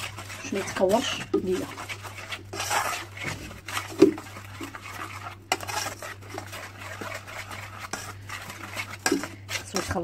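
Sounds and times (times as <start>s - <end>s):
utensil scraping in a saucepan: 0.0s - 10.0s.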